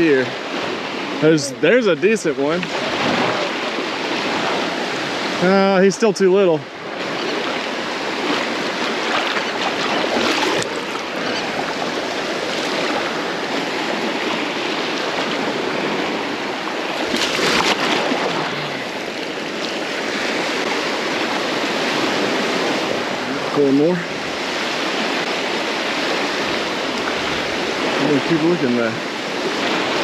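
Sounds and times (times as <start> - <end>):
surf washing in: 0.0 - 30.0.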